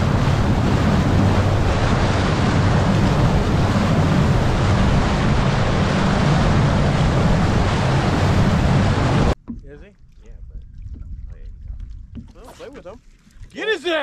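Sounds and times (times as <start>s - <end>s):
outboard engine drone: 0.0s - 13.3s
wind buffeting microphone: 0.0s - 13.6s
water rushing along hull: 0.0s - 14.0s.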